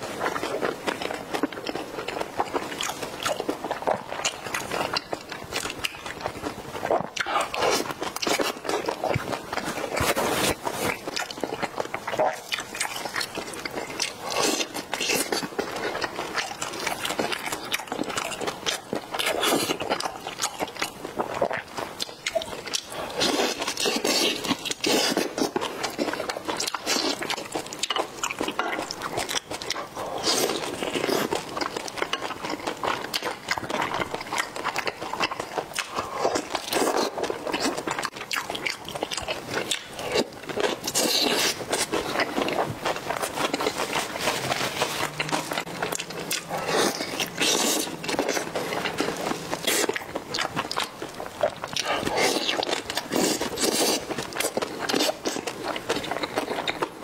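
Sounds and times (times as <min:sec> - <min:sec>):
biting and chewing food: 0:00.0 - 0:57.0.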